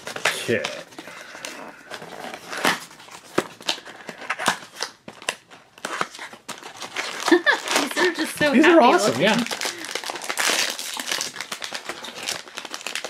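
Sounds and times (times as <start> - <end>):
crinkling cardboard and paper: 0.0 - 13.0.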